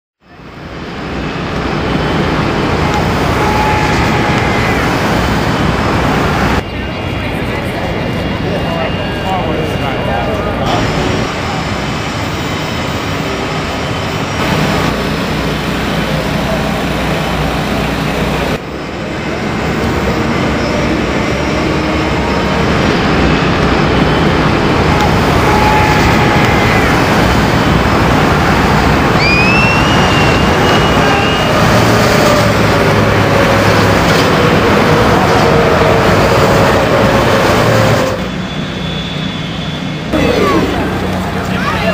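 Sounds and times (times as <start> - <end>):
loud vehicle engine: 0.3 - 41.9.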